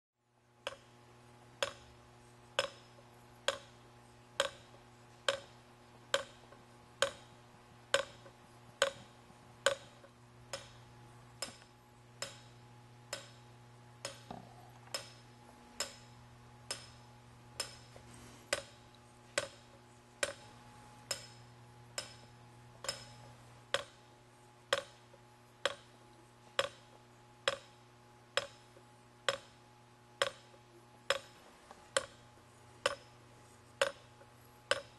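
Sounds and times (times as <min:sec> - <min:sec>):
steady low hum: 0:00.2 - 0:34.9
mechanism ticking clicks: 0:00.6 - 0:01.0, 0:01.6 - 0:34.9.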